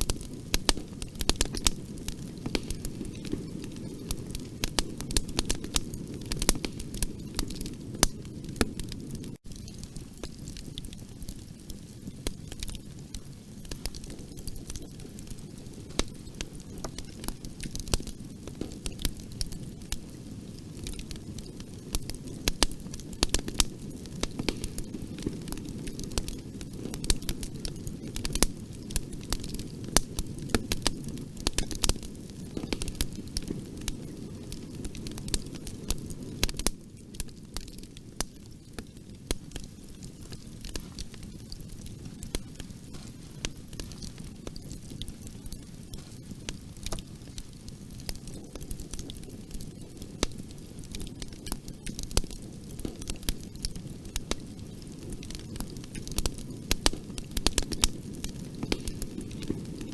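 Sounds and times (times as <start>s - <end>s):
fire pops and snaps: 0.0s - 59.9s
low rush of flames: 0.0s - 59.9s.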